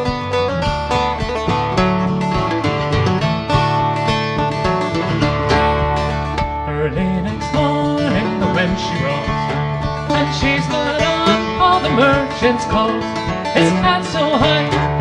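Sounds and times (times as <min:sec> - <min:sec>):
acoustic guitar strumming: 0:00.0 - 0:15.0
plucked mandolin-like melody: 0:00.0 - 0:15.0.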